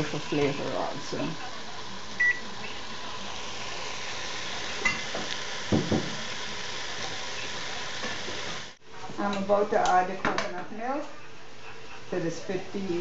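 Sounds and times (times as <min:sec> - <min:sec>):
food sizzling in a pot: 0:00.0 - 0:10.9.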